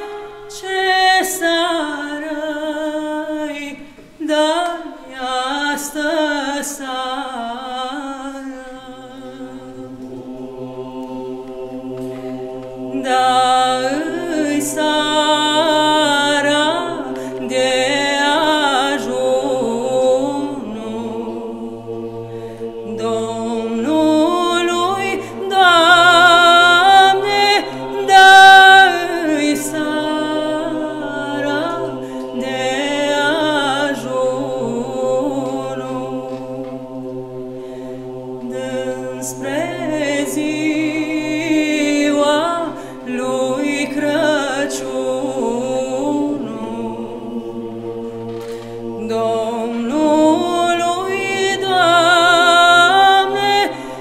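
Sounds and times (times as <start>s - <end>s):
woman soloist singing: 0.0s - 37.0s, 37.7s - 54.0s
choir holding low notes: 0.0s - 54.0s.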